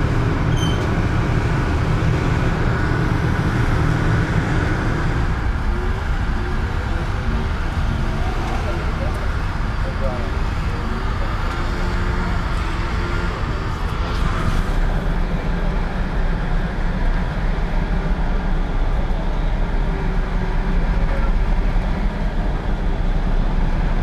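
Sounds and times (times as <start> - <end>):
diesel engines rumbling: 0.0 - 24.0
street traffic: 0.0 - 24.0.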